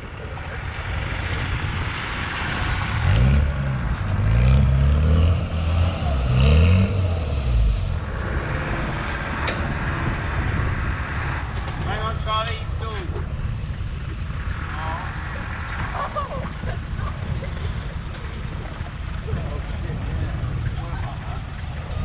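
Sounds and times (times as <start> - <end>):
car engine revving: 0.0 - 22.0
steady rushing noise: 0.0 - 22.0.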